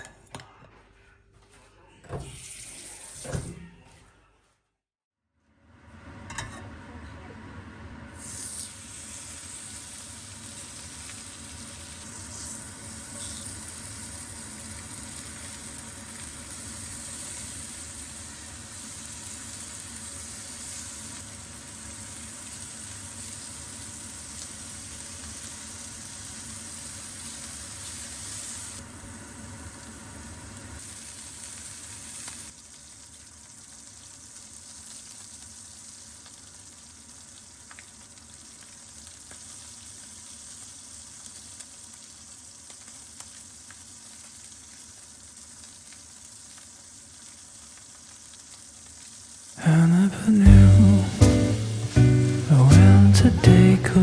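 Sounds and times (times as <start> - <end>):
food sizzling in a hot pan: 8.1 - 54.0.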